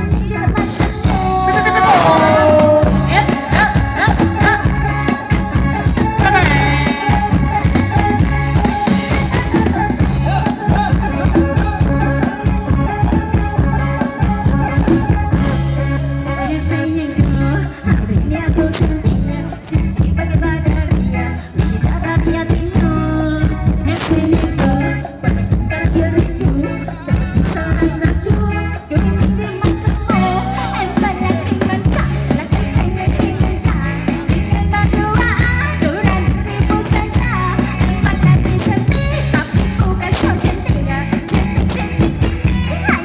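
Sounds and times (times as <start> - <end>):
live band with singer: 0.0 - 43.0.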